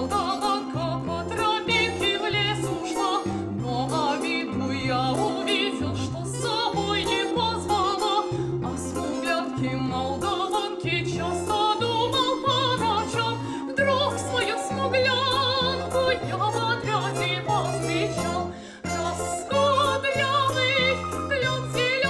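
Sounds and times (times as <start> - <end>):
repeating bass line accompaniment: 0.0 - 21.8
woman singing classical style: 0.0 - 22.0.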